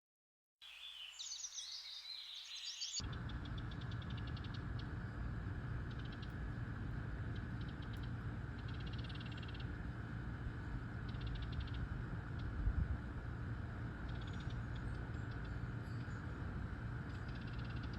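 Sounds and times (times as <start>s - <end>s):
songbirds chirping and trilling: 0.6s - 17.9s
low background rumble: 3.0s - 17.9s.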